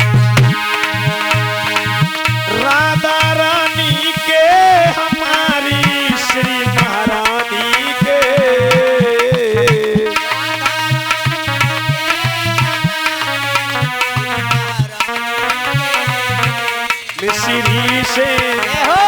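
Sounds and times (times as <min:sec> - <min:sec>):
hand drum beat: 0:00.0 - 0:19.0
held accompaniment tones: 0:00.0 - 0:19.0
sliding melodic lead line: 0:00.0 - 0:19.0.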